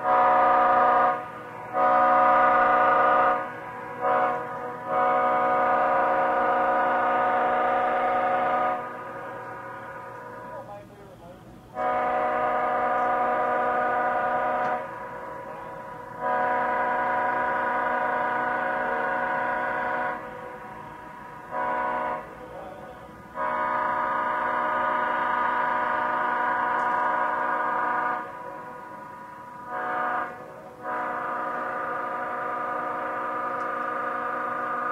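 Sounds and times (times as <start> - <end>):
locomotive air horn blasts: 0.0 - 10.7, 11.7 - 34.9.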